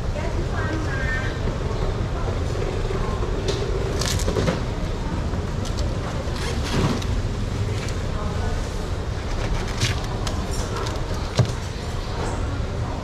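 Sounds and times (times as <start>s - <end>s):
market background rumble: 0.0s - 13.0s.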